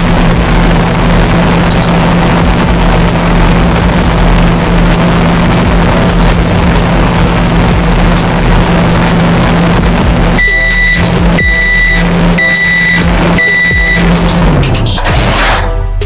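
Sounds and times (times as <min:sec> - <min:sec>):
mechanical hum with low drone: 0:00.0 - 0:16.0.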